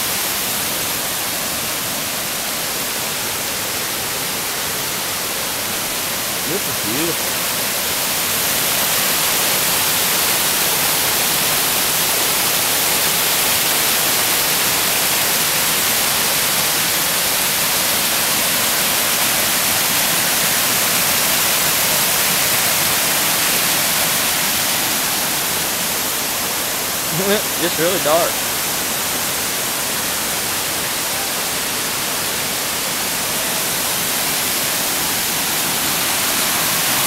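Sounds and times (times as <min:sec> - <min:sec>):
waterfall rushing over rock: 0:00.0 - 0:37.0.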